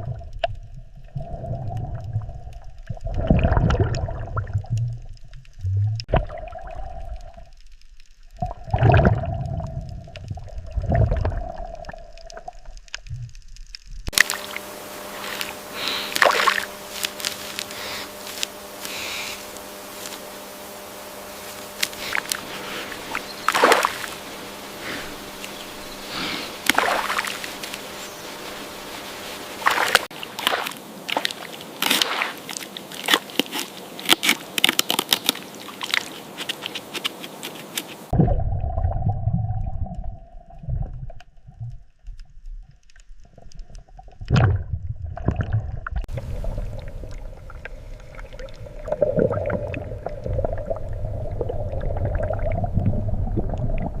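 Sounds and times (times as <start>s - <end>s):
water sloshing and splashing: 0.0s - 7.6s, 8.2s - 18.8s, 19.7s - 54.0s
muffled low water gurgling: 0.0s - 30.4s, 38.1s - 54.0s.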